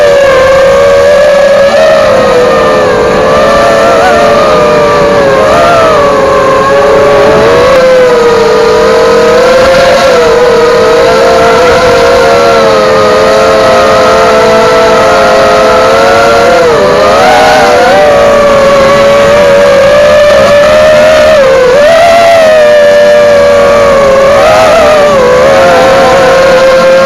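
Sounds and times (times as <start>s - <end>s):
quadcopter propellers buzzing: 0.0s - 27.0s.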